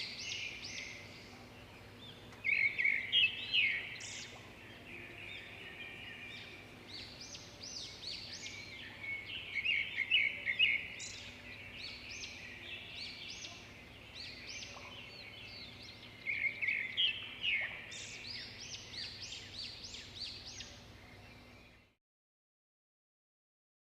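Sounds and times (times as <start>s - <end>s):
birds chirping and calling: 0.0s - 21.8s.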